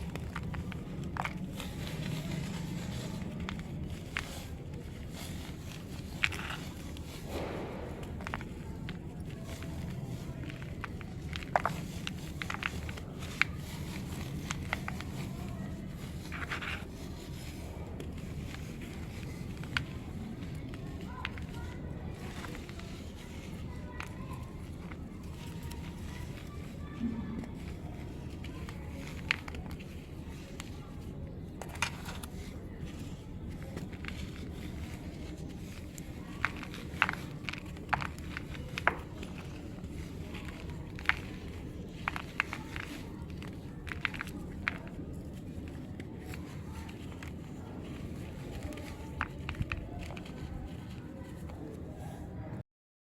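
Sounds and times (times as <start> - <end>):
soil crumbling: 0.0 - 50.6.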